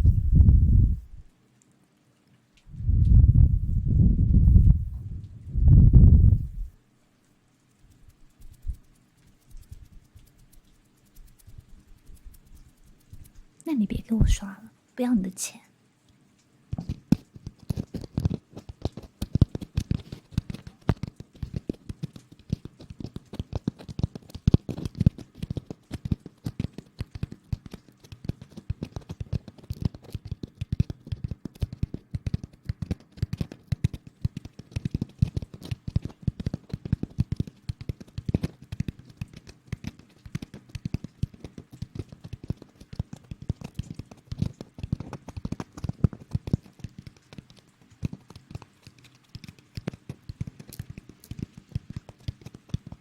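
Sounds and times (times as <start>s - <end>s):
crackles and scratches at microphone: 0.0s - 1.3s, 2.6s - 14.6s, 16.2s - 53.0s.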